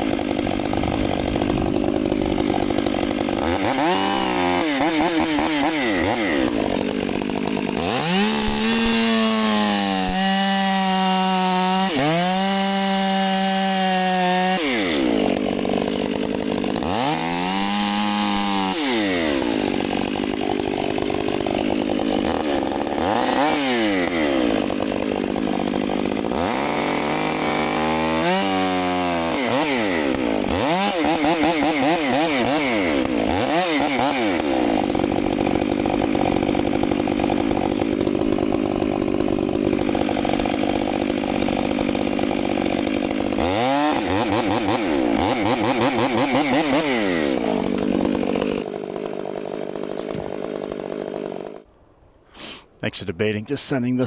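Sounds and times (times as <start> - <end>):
chainsaw cutting a tree: 0.0 - 51.7, 52.3 - 54.0.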